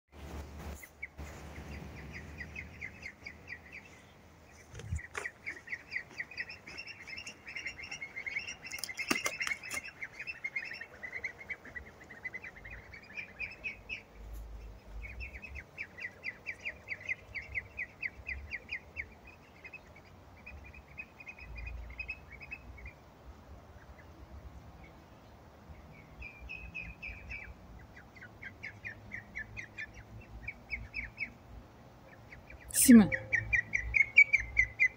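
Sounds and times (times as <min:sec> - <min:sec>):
ducklings peeping: 0:00.5 - 0:34.9.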